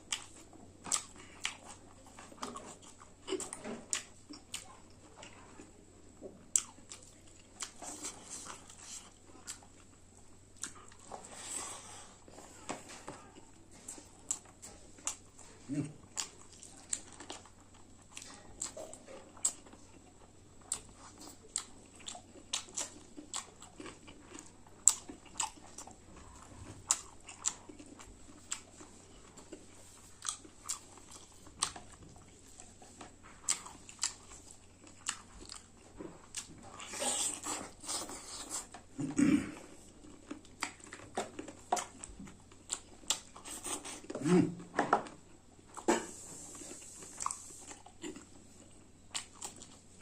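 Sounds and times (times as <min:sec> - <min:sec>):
person chewing food: 0:00.0 - 0:50.0.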